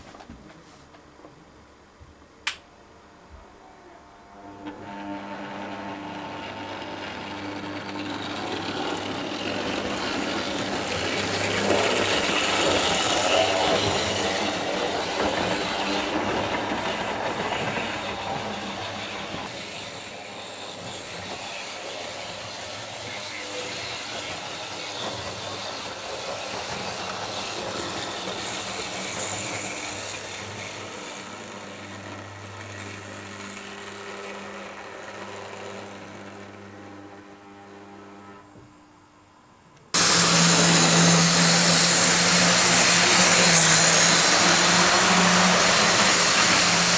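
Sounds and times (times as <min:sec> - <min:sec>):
model train motor whirring: 0:04.7 - 0:38.3, 0:40.0 - 0:46.9.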